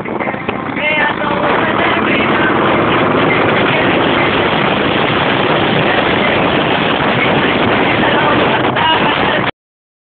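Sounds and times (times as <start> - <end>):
motorcycle engine running: 0.0 - 9.5
wind buffeting microphone: 0.0 - 9.5.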